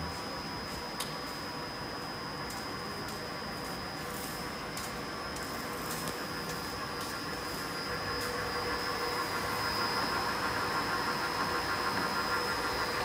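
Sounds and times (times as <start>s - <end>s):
milling machine hum and whine: 0.0s - 13.0s.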